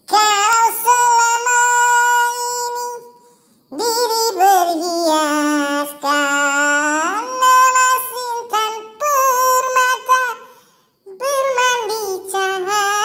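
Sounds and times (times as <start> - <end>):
high childlike singing voice: 0.0 - 13.0.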